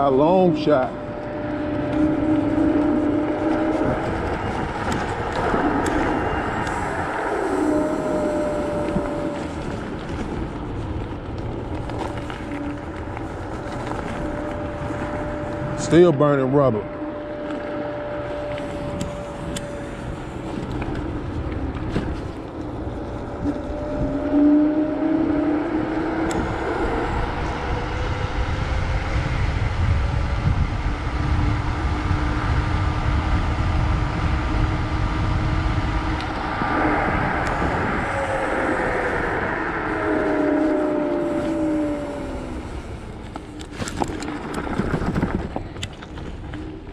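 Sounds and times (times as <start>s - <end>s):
electric motor whining: 0.0s - 46.7s
wind and road noise: 0.0s - 46.9s.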